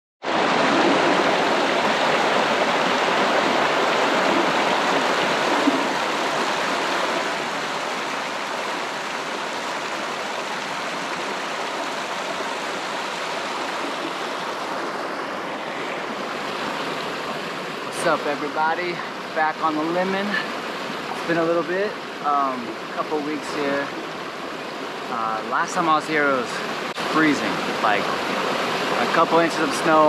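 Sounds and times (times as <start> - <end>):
water splashing over boulders: 0.2 - 15.2, 15.8 - 30.0.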